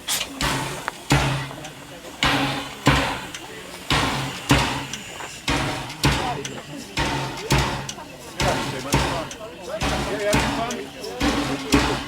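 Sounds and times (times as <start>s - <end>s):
steam train chugging: 0.0s - 12.0s.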